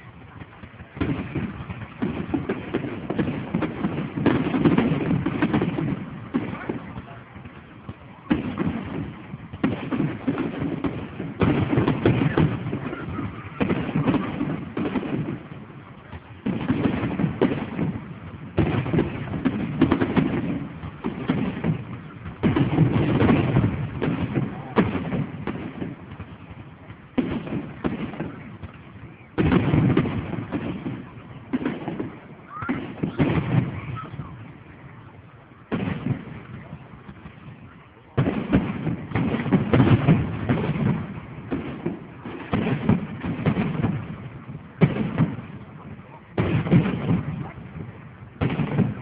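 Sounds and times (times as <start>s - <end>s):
fireworks bursting: 0.0s - 49.0s
fireworks crackling: 0.0s - 49.0s.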